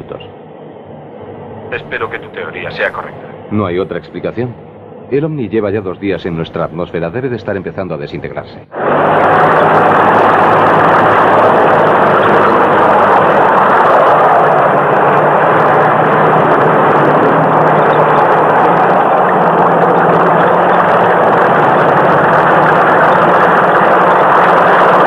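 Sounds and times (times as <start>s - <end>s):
vehicle engine drone: 0.0s - 25.0s.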